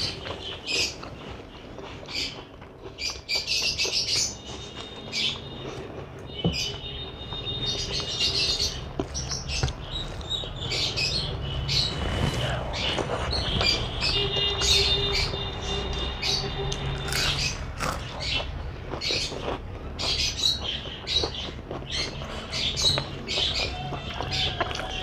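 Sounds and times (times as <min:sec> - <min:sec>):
small birds chirping and squawking: 0:00.0 - 0:25.0.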